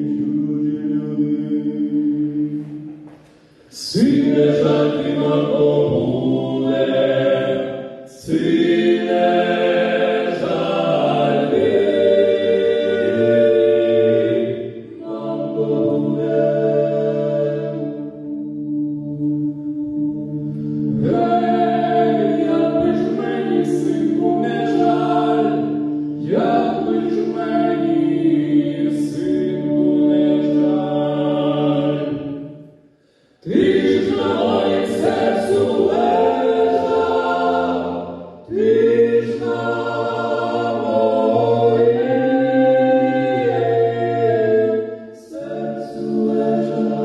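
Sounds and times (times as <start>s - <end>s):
a cappella choir singing: 0.0s - 47.0s.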